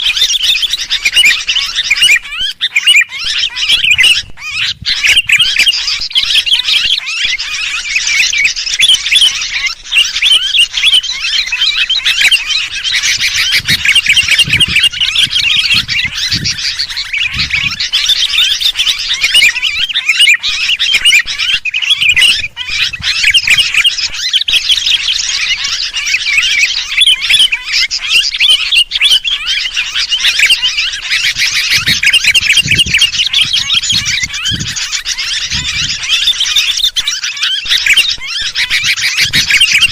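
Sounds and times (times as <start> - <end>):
birds chattering: 0.0 - 39.9.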